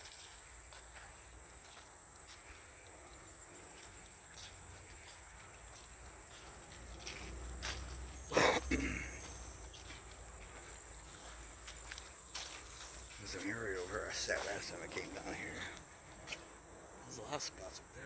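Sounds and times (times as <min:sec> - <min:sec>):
footsteps on leafy dirt path: 0:00.0 - 0:17.0
crickets chirring: 0:00.0 - 0:18.0.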